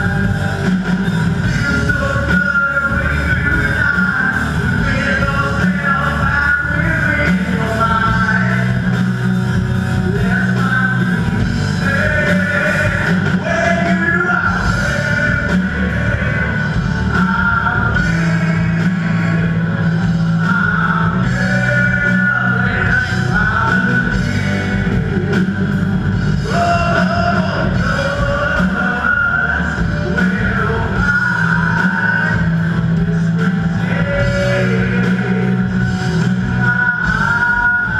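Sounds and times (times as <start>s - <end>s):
bass guitar: 0.0s - 37.9s
drum kit: 0.0s - 37.9s
electric guitars: 0.0s - 37.9s
lead singer singing: 0.0s - 37.9s.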